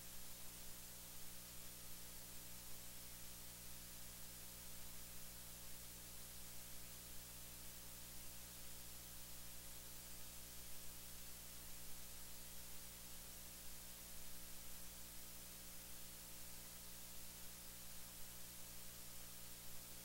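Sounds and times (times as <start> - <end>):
faint steady hiss: 0.0 - 20.0
low electrical hum: 0.0 - 20.0.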